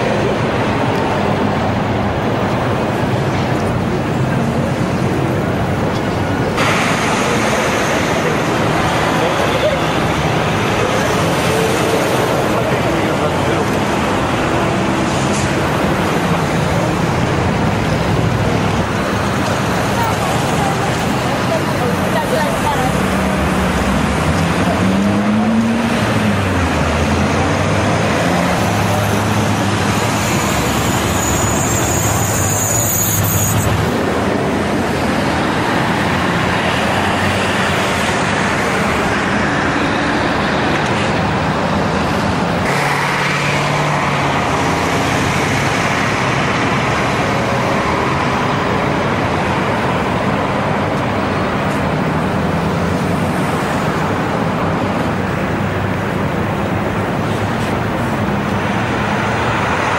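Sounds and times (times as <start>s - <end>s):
city street traffic: 0.0s - 59.9s.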